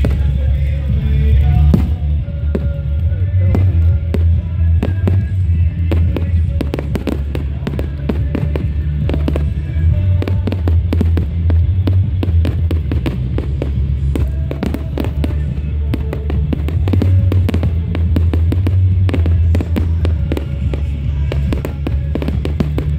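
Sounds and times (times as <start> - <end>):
fireworks cracking and banging: 0.0 - 22.9
music with heavy bass: 0.0 - 22.9.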